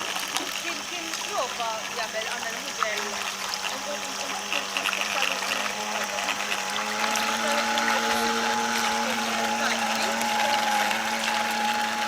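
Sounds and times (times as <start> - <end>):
electric motor whine: 0.0 - 12.0
water wash: 0.0 - 12.0.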